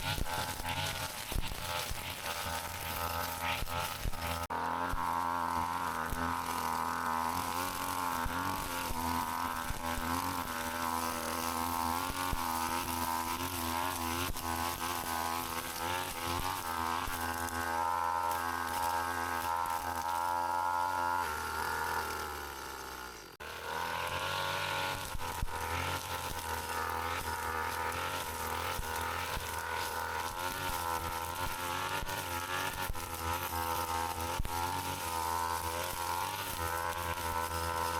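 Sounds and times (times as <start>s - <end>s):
brush cutter engine running: 0.0s - 37.9s.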